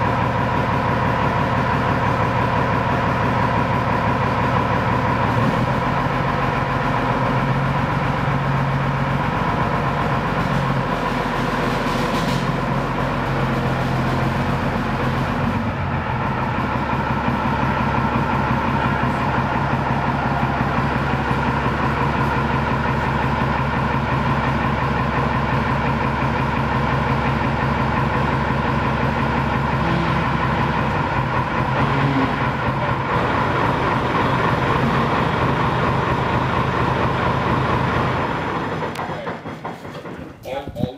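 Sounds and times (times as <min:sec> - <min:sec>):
diesel engine running loudly: 0:00.0 - 0:40.5.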